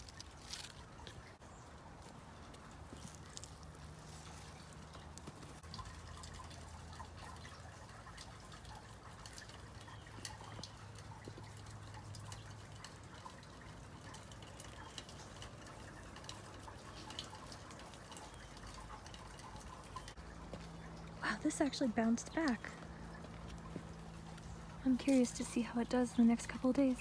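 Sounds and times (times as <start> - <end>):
meltwater dripping: 0.0 - 27.0.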